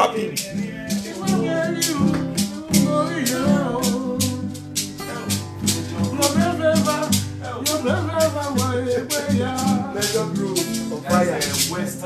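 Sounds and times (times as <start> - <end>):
acoustic guitar strumming: 0.0 - 12.0
man rapping: 0.0 - 12.0.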